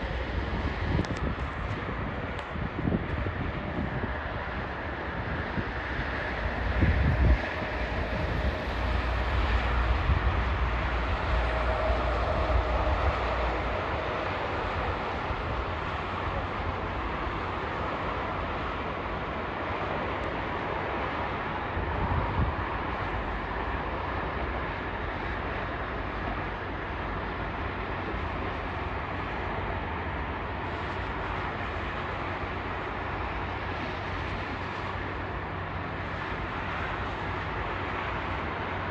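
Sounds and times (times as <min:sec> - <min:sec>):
jet engines taxiing: 0:00.0 - 0:38.9.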